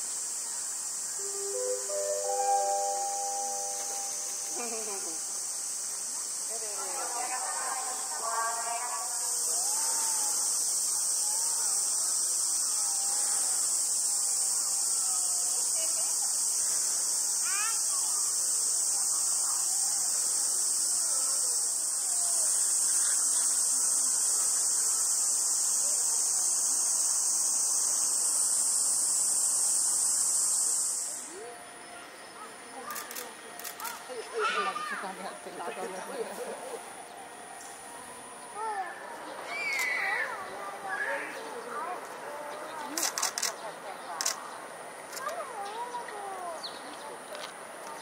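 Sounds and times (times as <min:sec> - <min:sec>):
cicadas shrilling: 0:00.0 - 0:48.0.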